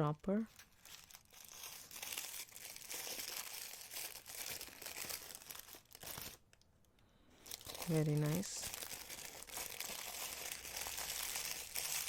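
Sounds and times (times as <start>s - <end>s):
fine crackle: 0.3s - 6.4s, 7.4s - 12.0s
packaging crinkling and rustling: 0.3s - 6.6s, 7.4s - 12.0s.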